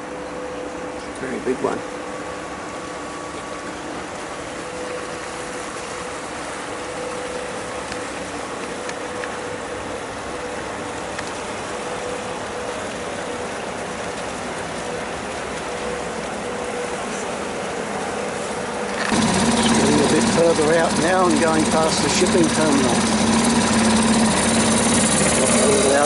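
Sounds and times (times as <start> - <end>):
faint electric motor hum: 0.0 - 26.0
water rushing along boat hull: 0.0 - 26.0.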